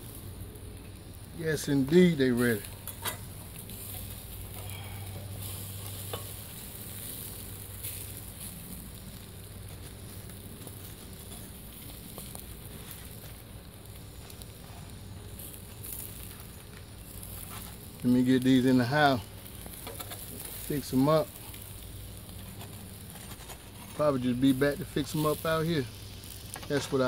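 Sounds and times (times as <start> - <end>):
burger patties sizzling on grill: 0.0 - 27.0
spatula scraping grill: 1.0 - 27.0.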